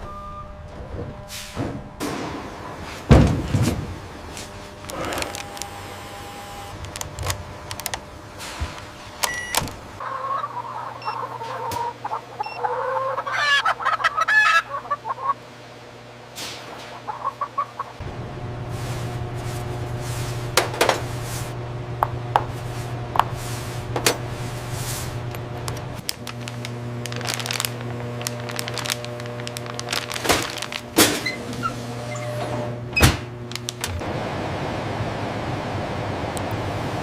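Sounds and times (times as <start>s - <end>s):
machine hum: 0.0s - 13.0s, 18.0s - 37.0s.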